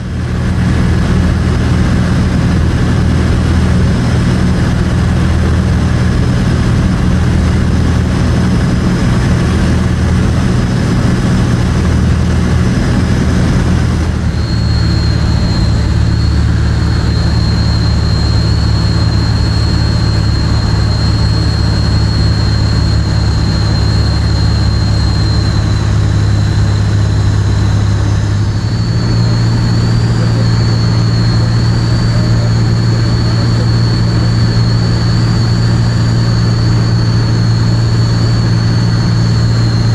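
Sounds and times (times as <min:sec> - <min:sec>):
high thin whine: 0:00.0 - 0:39.9
propeller engine droning: 0:00.0 - 0:39.9.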